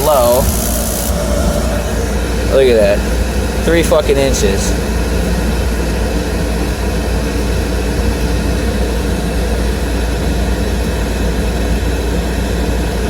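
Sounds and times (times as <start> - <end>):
constant low hum: 0.0 - 13.0
gas heater blower rumble: 0.0 - 13.0.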